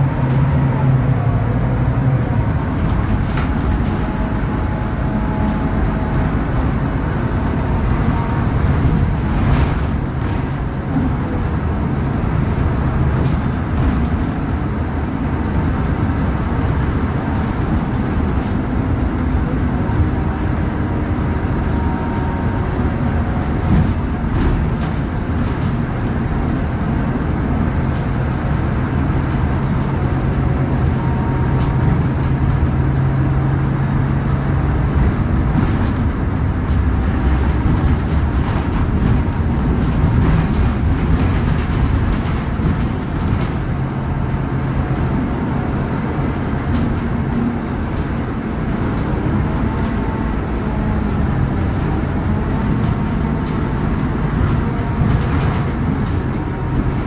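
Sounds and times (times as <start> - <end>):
bus engine humming: 0.0 - 57.0
road and tyre noise: 0.0 - 57.0.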